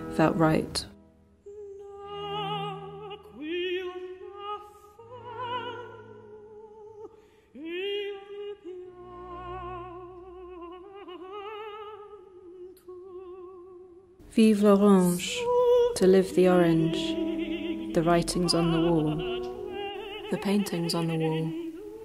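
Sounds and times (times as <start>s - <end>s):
quiet low accompaniment: 0.0s - 22.0s
female opera singer: 1.5s - 22.0s.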